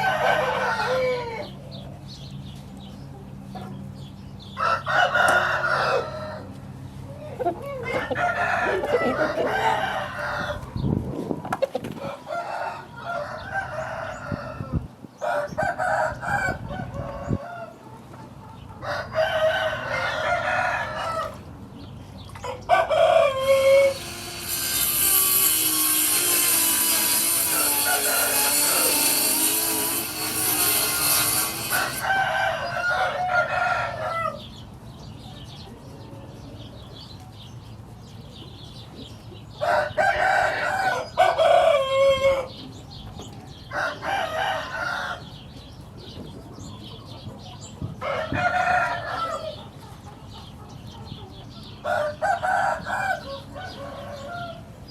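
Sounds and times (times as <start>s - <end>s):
roosters crowing: 0.0s - 2.5s, 3.9s - 35.0s, 39.4s - 46.1s, 47.2s - 54.9s.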